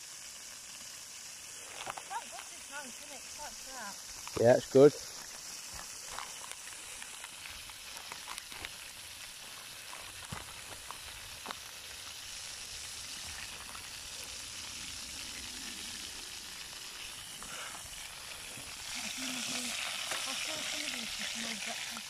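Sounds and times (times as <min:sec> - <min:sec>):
griddle pan sizzling: 0:00.0 - 0:22.0
fat crackling and spitting: 0:00.2 - 0:22.0.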